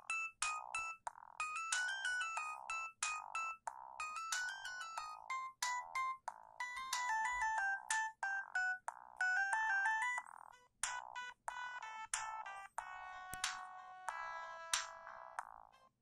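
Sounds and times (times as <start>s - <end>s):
polyphonic phone ringtone: 0.0s - 15.4s.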